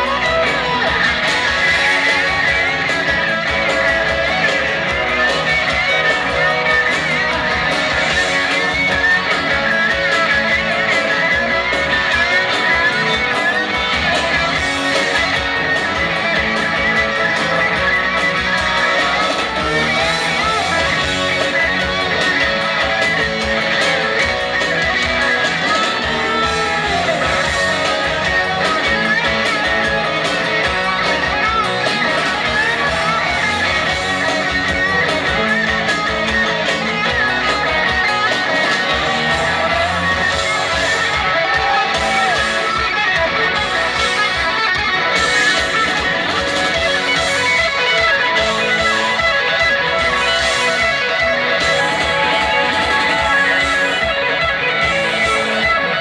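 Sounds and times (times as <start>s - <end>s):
electric guitar solo: 0.0s - 56.0s
rock band music: 0.0s - 56.0s.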